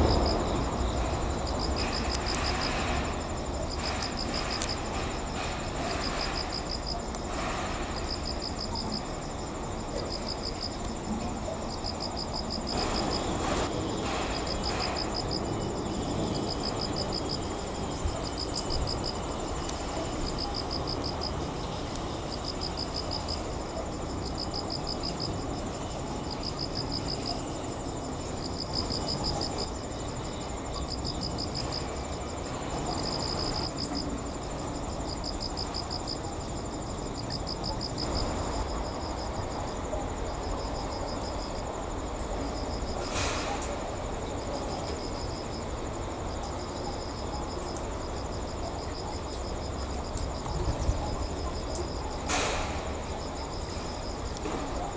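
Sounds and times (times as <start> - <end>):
high insect trill: 0.0 - 54.9
insects chirping: 0.0 - 54.9.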